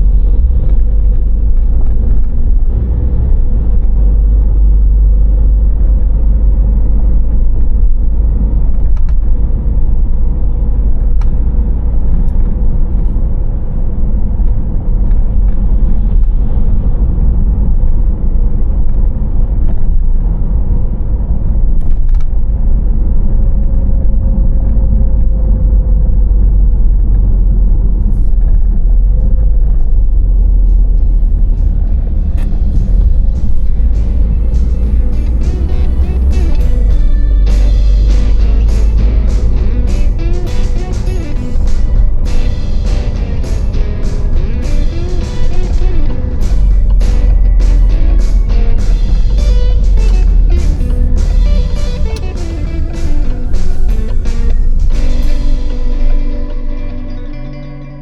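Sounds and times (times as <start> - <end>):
tyre and wind noise: 0.0 - 56.4
car road rumble: 0.0 - 58.0.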